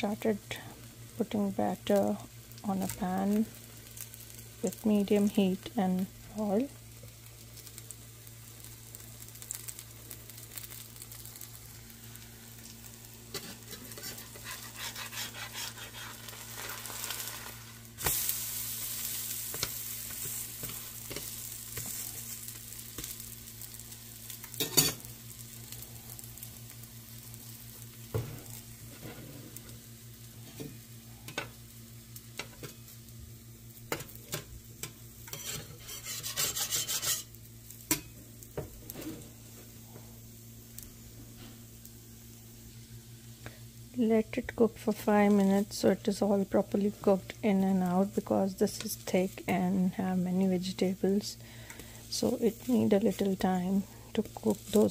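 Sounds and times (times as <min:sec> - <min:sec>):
batter sizzling in oil: 0:00.0 - 0:54.9
steady low hum: 0:00.0 - 0:54.9.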